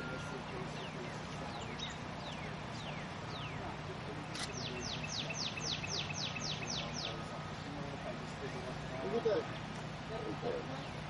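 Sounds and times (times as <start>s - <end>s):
songbird singing: 0.0s - 11.0s
steady low hum: 0.0s - 11.0s.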